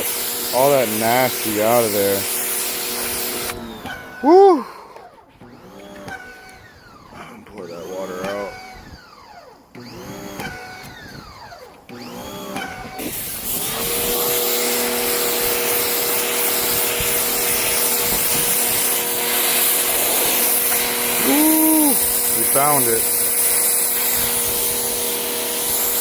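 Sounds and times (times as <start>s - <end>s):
wet vacuum motor humming: 0.0s - 4.6s, 5.4s - 26.0s.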